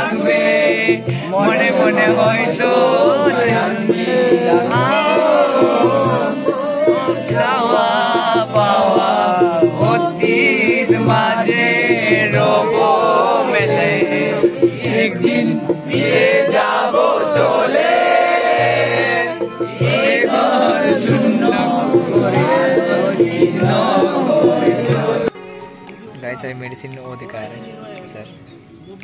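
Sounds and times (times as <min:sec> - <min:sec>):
young men singing: 0:00.0 - 0:25.3
low beat: 0:00.0 - 0:29.0.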